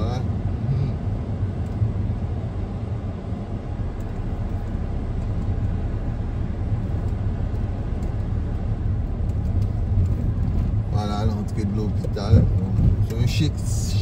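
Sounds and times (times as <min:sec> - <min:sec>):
car cabin engine and tyre rumble: 0:00.0 - 0:14.0.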